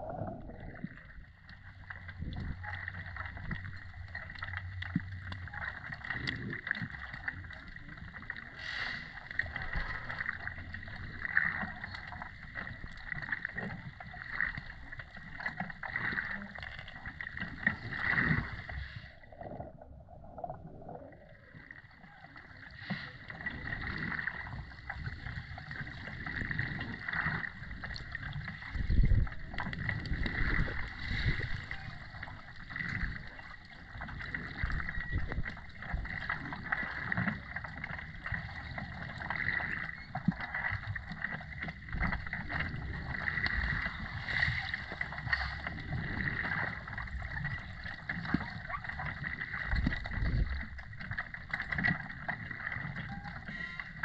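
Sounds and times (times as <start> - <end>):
underwater crackles and clicks: 0.0 - 54.0
underwater rushing water: 0.0 - 54.0.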